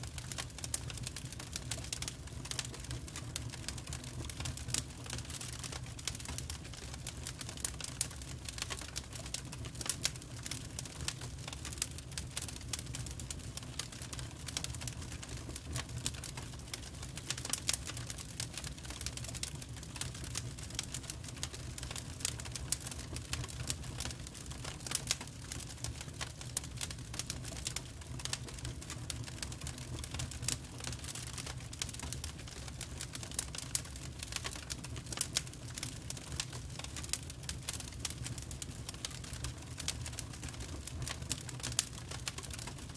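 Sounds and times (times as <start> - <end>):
firewood crackling: 0.1 - 42.9.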